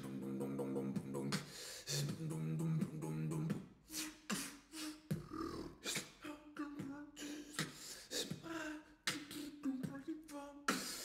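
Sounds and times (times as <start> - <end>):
beatboxing mouth hits: 0.0 - 10.0, 10.7 - 11.0.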